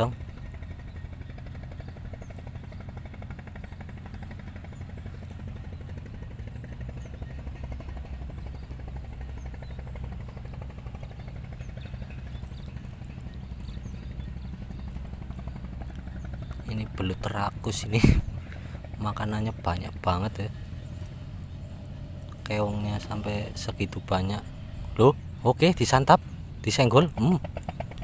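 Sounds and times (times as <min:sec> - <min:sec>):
small engine droning: 0:00.0 - 0:28.0.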